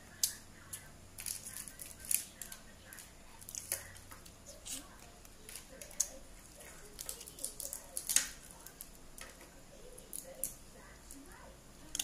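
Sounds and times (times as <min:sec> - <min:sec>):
crab shell cracking: 0:00.2 - 0:10.6.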